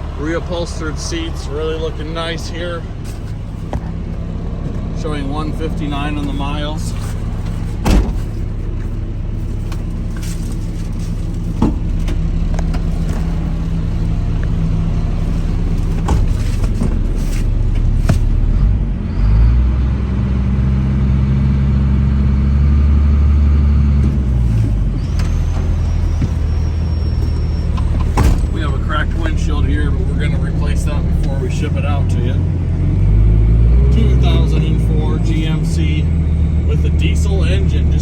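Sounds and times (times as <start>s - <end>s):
diesel truck engine running: 0.0s - 38.0s.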